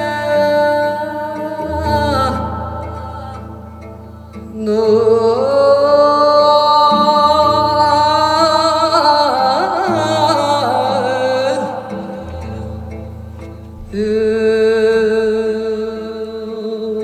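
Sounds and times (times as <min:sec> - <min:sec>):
person singing folk song: 0:00.0 - 0:17.0.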